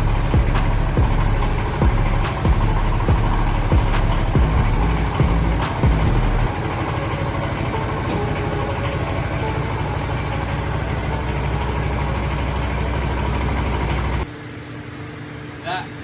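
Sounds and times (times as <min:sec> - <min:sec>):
engine idling: 0:00.0 - 0:14.3.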